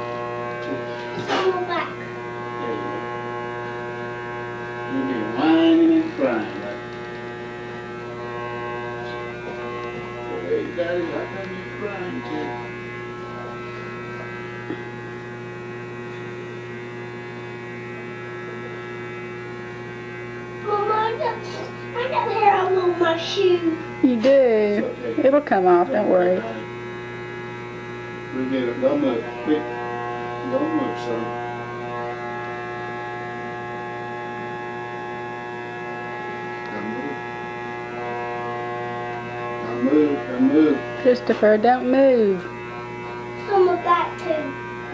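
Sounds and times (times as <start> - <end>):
electric hair clippers buzzing: 0.0 - 44.9.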